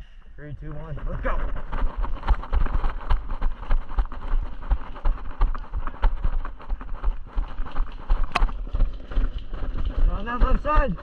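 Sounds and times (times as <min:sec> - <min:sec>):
footsteps running on ground: 0:00.6 - 0:11.0.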